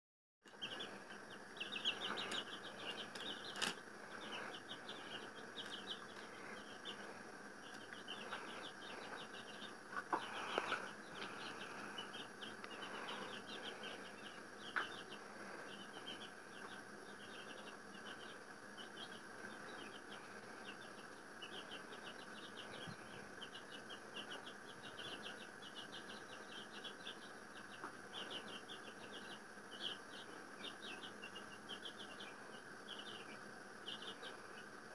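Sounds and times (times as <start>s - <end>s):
baby chicks peeping: 0.4s - 34.9s.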